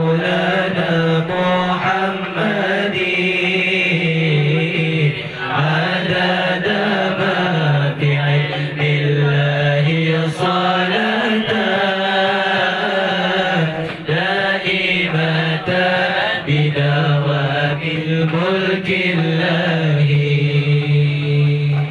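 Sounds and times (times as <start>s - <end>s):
person chanting in long held notes: 0.0s - 21.9s.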